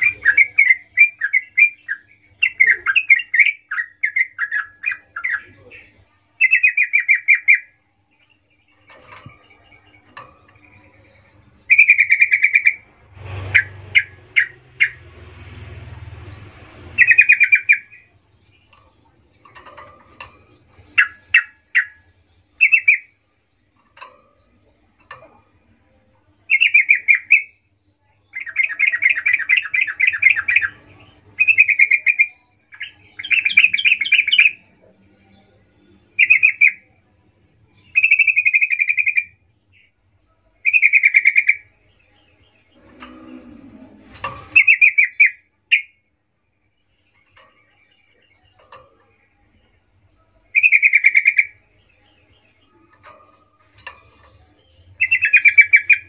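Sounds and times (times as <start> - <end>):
bird singing chattering song: 0.0 - 56.0.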